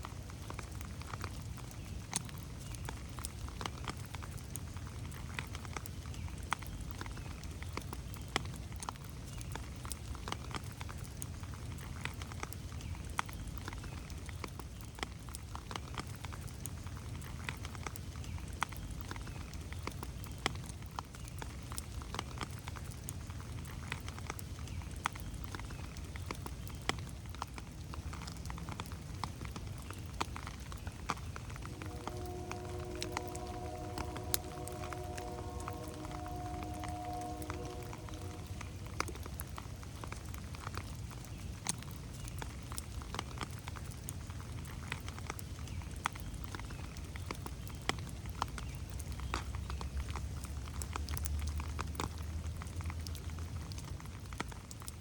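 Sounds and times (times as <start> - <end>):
rain falling on foliage: 0.0 - 55.0
raindrops pattering: 0.0 - 55.0.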